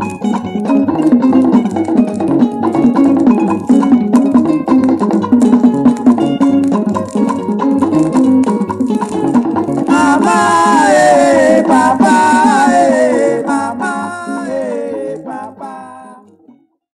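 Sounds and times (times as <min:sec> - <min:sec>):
percussion beat: 0:00.0 - 0:16.2
sliding melodic lead line: 0:00.0 - 0:16.4.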